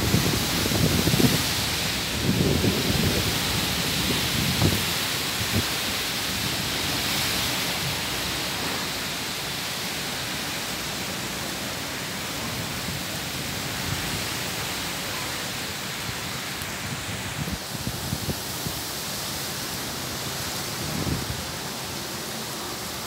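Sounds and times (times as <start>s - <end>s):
heavy rain: 0.0s - 23.0s
strong wind: 0.0s - 23.0s.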